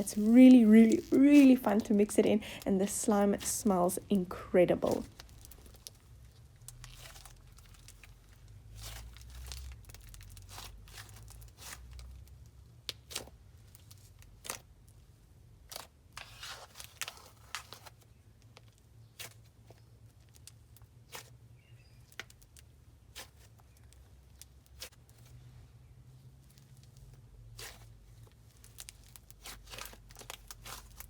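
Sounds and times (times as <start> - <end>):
slime crackling and tearing: 0.0 - 4.0, 4.8 - 15.0, 15.6 - 25.3, 26.4 - 31.0.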